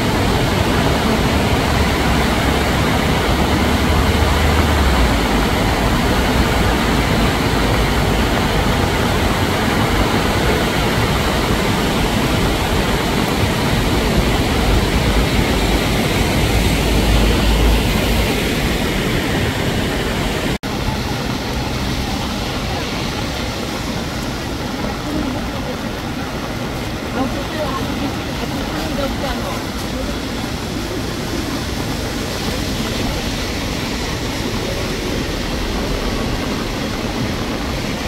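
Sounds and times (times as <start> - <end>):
flooded river rushing: 0.0 - 38.0
heavy rain falling: 0.0 - 38.0.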